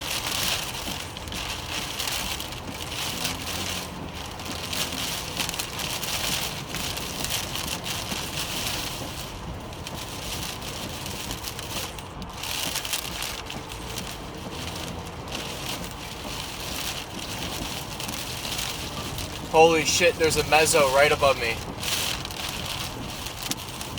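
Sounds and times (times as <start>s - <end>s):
steady rain hiss: 0.0s - 23.9s.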